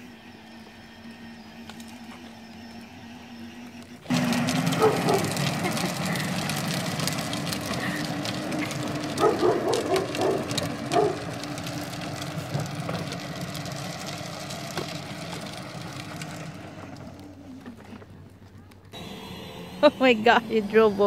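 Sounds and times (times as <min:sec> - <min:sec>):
toy car electric motor whine: 0:00.0 - 0:18.2, 0:18.9 - 0:21.0
plastic wheels rolling on asphalt: 0:00.0 - 0:21.0.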